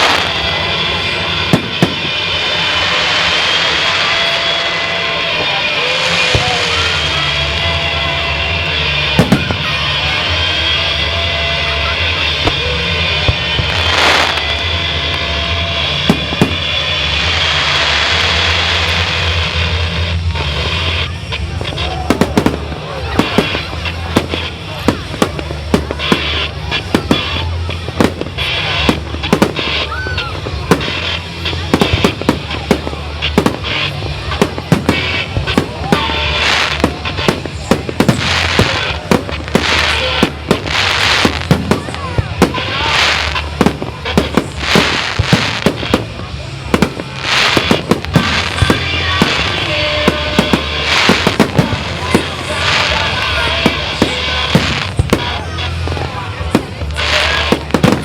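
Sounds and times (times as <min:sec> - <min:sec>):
sharp firework bangs: 0:00.0 - 0:08.1, 0:08.8 - 0:10.0, 0:12.4 - 0:58.0
firework hissing whoosh: 0:00.0 - 0:58.0
fireworks rumbling: 0:00.0 - 0:58.0.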